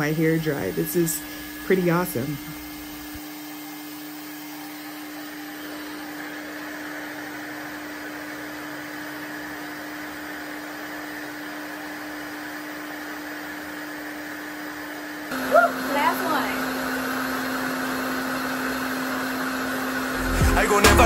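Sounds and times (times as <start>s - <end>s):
hair dryer motor drone: 0.0s - 21.0s.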